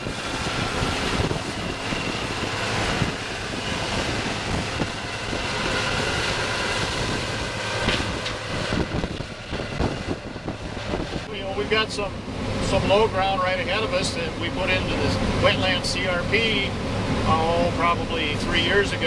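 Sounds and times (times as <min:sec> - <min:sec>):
combine harvester drone: 0:00.0 - 0:19.0.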